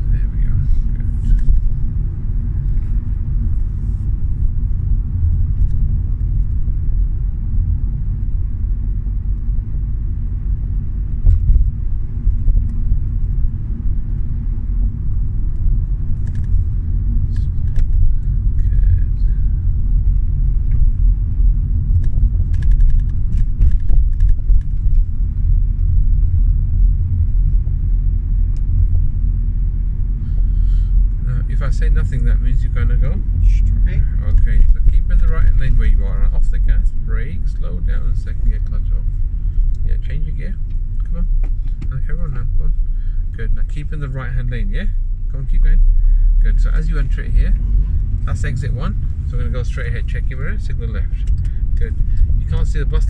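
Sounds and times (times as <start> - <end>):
car interior rumble: 0.0 - 53.0.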